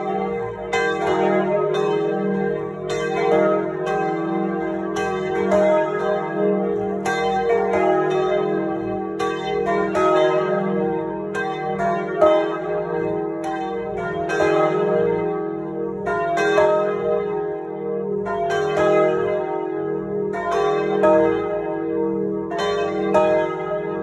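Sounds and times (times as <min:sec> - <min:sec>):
church bells ringing in peal: 0:00.0 - 0:24.0.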